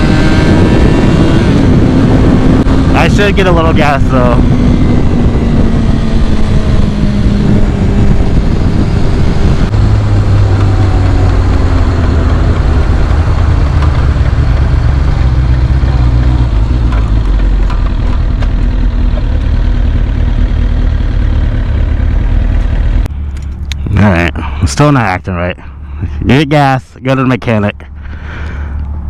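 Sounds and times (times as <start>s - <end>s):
motorcycle engine running: 0.0s - 24.6s
road and wind rumble: 0.0s - 29.0s.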